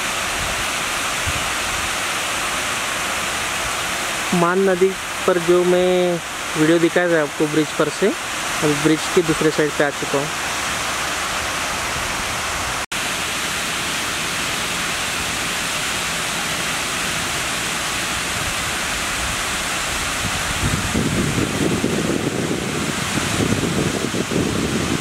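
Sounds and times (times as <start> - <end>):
lower rough rushing water: 0.0 - 25.0
water rushing over a weir: 0.0 - 25.0.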